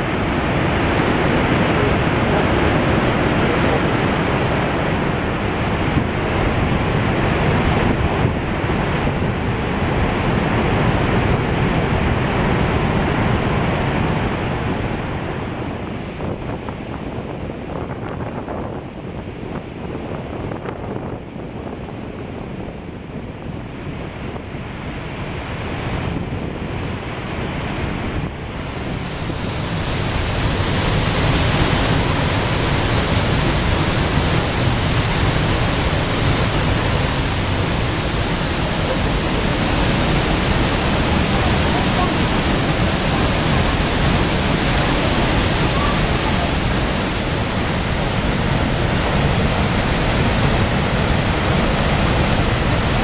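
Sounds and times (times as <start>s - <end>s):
waterfall roar: 0.0s - 53.0s.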